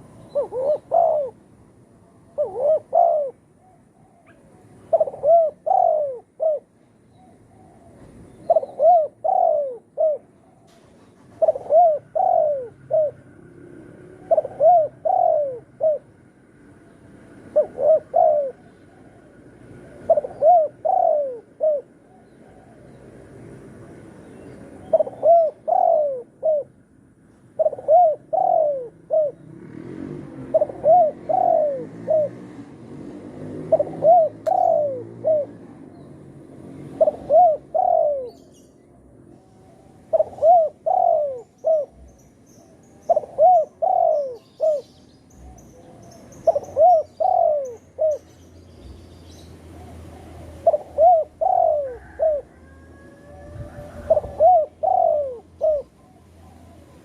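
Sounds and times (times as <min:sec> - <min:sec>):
dove cooing: 0:00.0 - 0:23.9, 0:24.7 - 0:48.5, 0:49.7 - 0:57.0.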